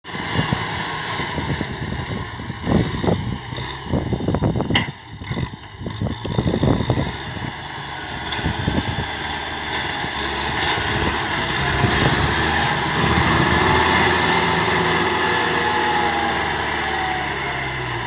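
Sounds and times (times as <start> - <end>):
tractor engine running: 0.1 - 18.0.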